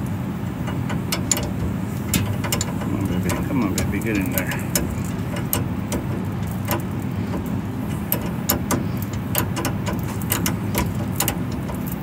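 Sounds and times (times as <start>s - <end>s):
steady low hum: 0.0s - 12.0s
ratcheting wrench clicking: 0.7s - 12.0s.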